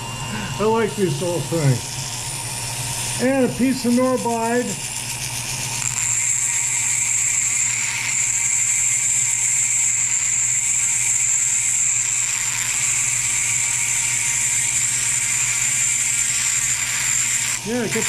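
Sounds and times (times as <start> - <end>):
rotary tool high whine: 0.0 - 18.0.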